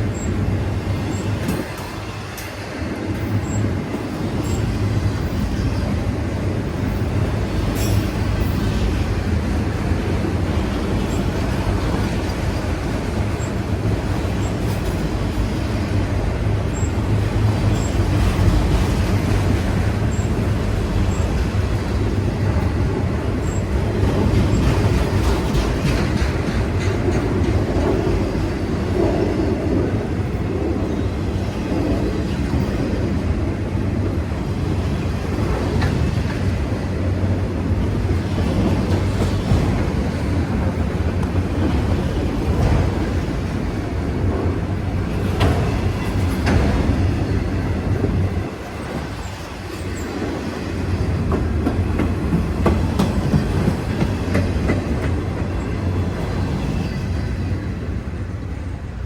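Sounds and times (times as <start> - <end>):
freight train wheels rumbling: 0.0 - 59.0
wheels clicking on rail joints: 0.0 - 59.0.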